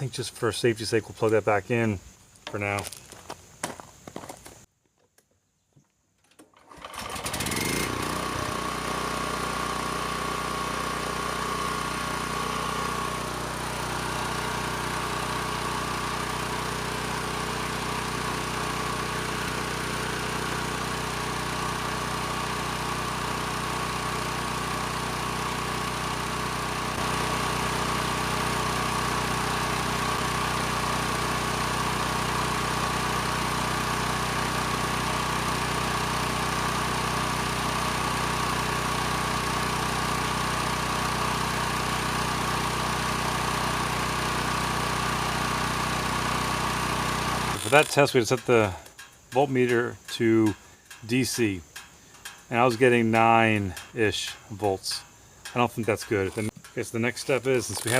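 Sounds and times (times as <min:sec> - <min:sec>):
portable generator engine running: 0:06.6 - 0:57.9.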